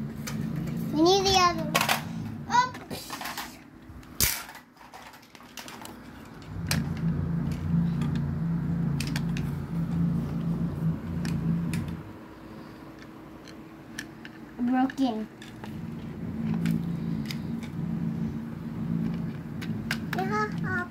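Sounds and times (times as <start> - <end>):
toy wheels rolling on plastic track: 0.2 - 3.6, 4.2 - 12.0, 13.0 - 20.9.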